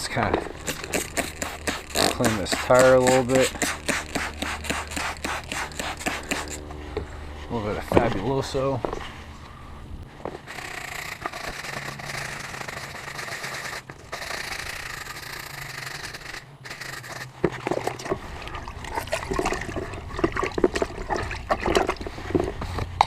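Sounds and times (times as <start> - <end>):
scrubbing tire: 0.0 - 9.4, 10.2 - 23.0.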